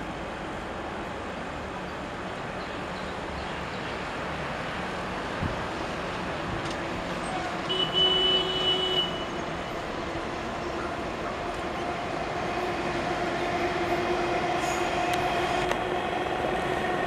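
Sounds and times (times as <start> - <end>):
road traffic noise: 0.0 - 17.0
train on elevated track: 0.0 - 17.0.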